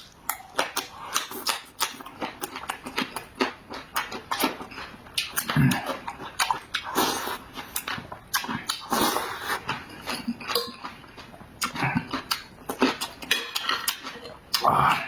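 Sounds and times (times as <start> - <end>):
wet chewing and crunching: 0.0 - 15.0.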